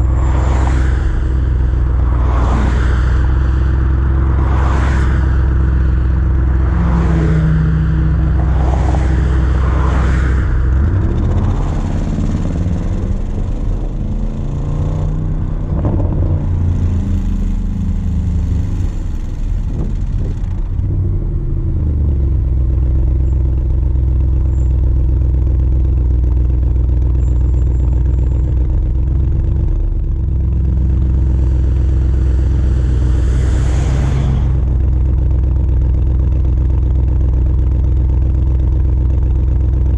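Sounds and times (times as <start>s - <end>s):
car exhaust drone: 0.0s - 39.9s.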